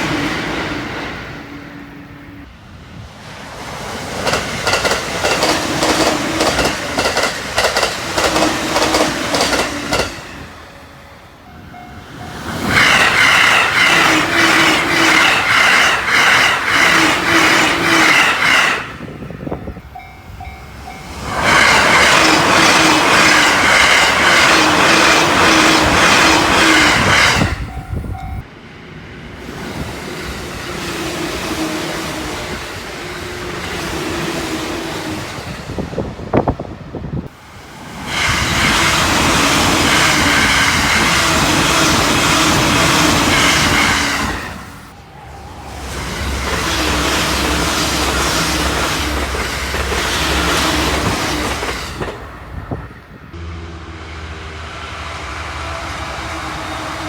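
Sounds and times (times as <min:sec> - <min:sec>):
trains passing at high speed: 0:00.0 - 0:57.0.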